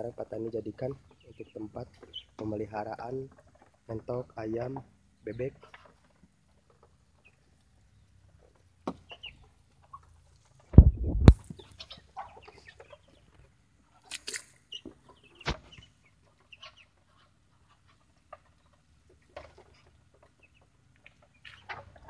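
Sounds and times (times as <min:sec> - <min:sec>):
ducks pecking: 0:00.0 - 0:22.0.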